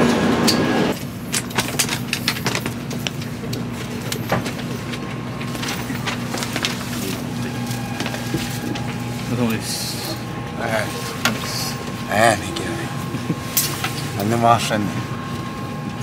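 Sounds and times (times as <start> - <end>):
loud train noise: 0.0 - 16.0
train carriage hum: 0.0 - 16.0
bags and clothing rustling: 1.6 - 16.0.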